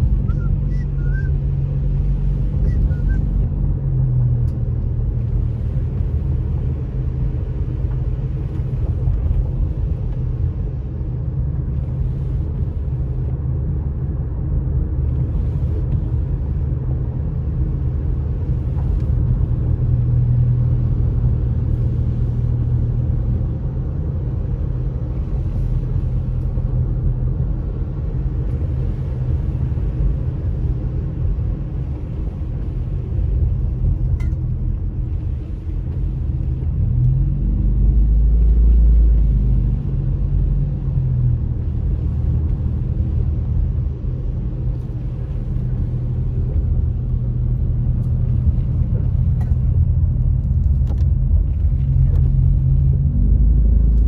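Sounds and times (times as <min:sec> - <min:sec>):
car engine hum: 0:00.0 - 0:54.0
tires rumbling on wet road: 0:00.0 - 0:54.0.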